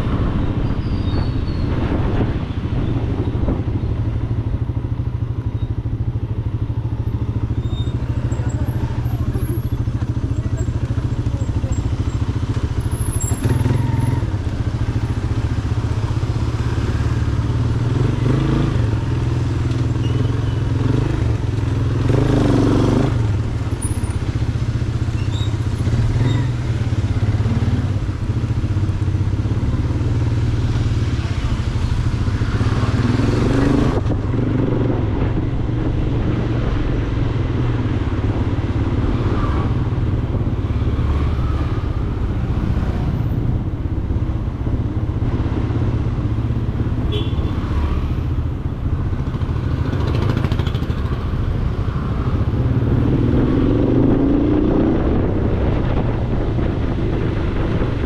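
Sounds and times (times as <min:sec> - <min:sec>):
road and wind noise: 0:00.0 - 0:58.0
motorcycle engine running: 0:04.0 - 0:47.6, 0:48.3 - 0:58.0.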